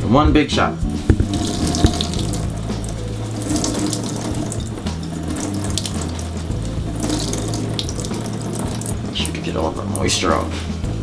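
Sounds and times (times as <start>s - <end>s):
water splashing into a steel sink: 1.0s - 10.6s.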